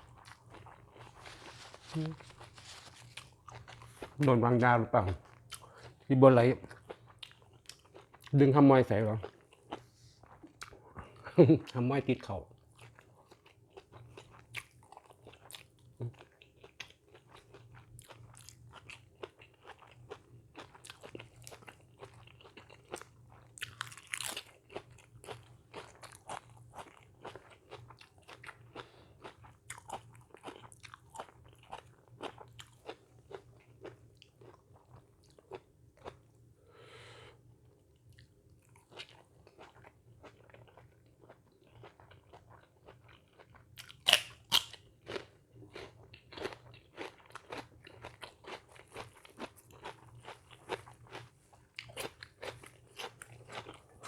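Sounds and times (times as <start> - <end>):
person chewing crunchy food: 0.0 - 8.4, 9.2 - 11.8, 12.6 - 36.4, 37.6 - 54.0.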